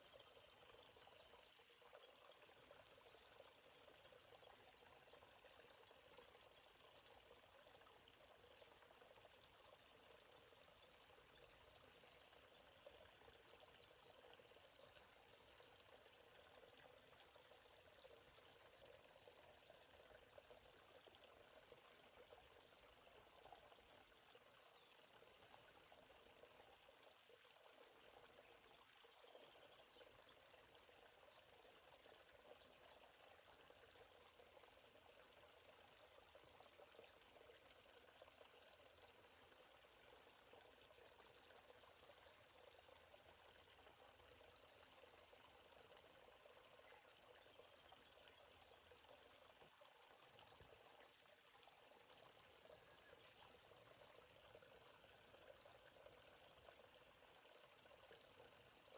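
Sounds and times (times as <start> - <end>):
forest stream murmur: 0.0 - 58.9
insects chorus: 0.0 - 58.9.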